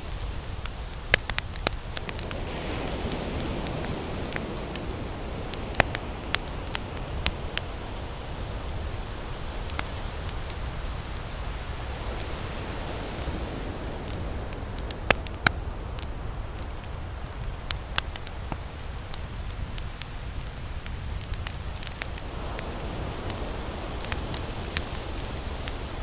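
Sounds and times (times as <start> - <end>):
campfire crackling: 0.0 - 26.0
fire pops and snaps: 0.0 - 26.0.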